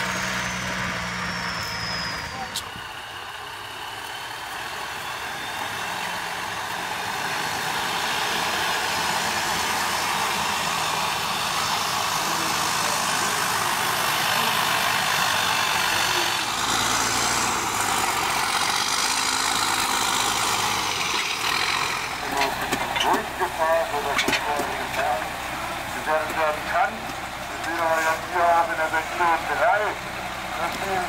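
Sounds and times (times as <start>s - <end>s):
truck diesel engine under load: 0.0s - 31.0s.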